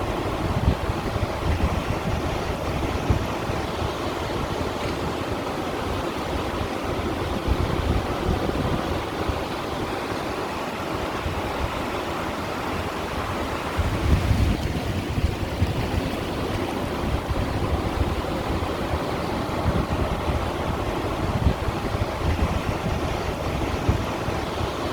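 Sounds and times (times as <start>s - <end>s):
waves splashing against stones: 0.1s - 24.9s.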